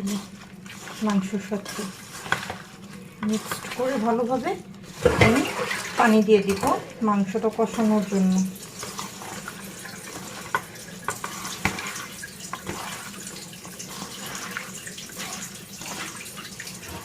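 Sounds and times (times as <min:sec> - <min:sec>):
wet squishing and splashing: 0:00.0 - 0:17.0.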